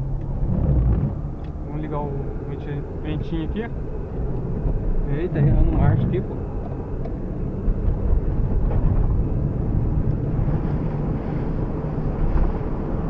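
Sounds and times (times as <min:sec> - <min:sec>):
car engine running: 0:00.0 - 0:13.0
road noise on wet street: 0:00.0 - 0:13.0.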